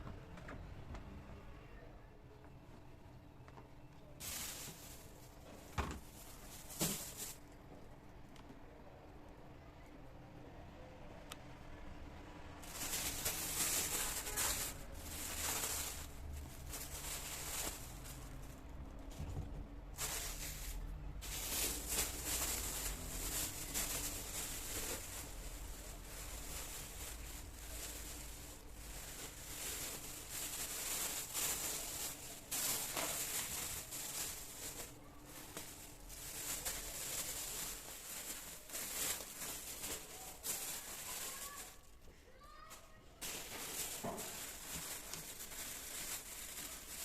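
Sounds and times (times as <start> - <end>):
groceries rustling: 4.0 - 7.9, 12.5 - 47.0.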